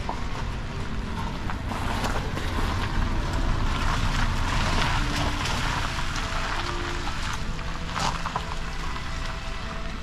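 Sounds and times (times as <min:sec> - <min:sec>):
rain pattering: 0:00.0 - 0:10.0.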